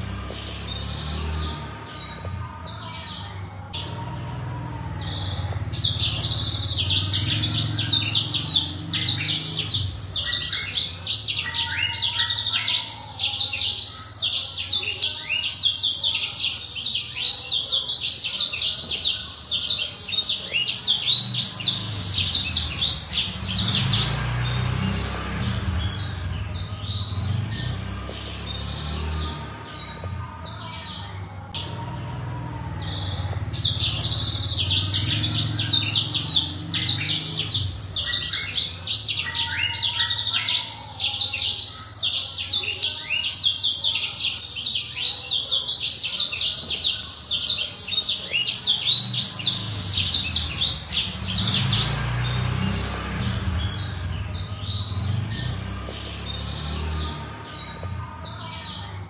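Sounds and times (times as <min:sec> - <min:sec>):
bird singing high twittering: 0:00.0 - 0:59.0.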